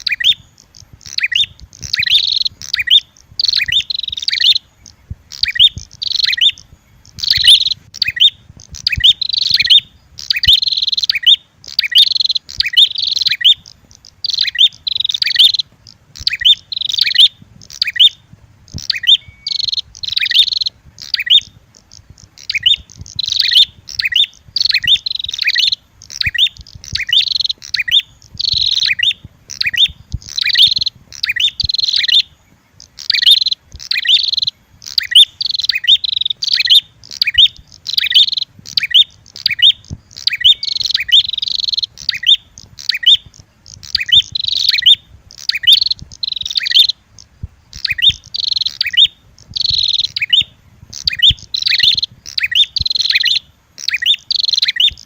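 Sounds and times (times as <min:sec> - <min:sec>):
birds chirping rapidly: 0:00.0 - 0:55.0.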